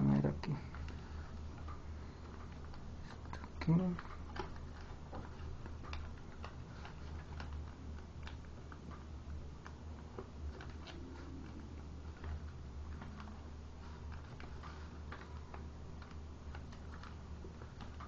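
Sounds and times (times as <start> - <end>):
steady low hum: 0.0 - 18.0
paper crackling and tapping: 0.6 - 18.0.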